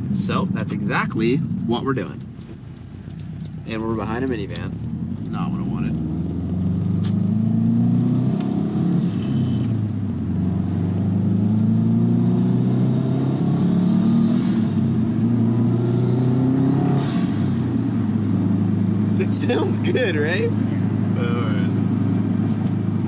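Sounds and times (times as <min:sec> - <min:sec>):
car engine accelerating through gears: 0:00.0 - 0:23.0.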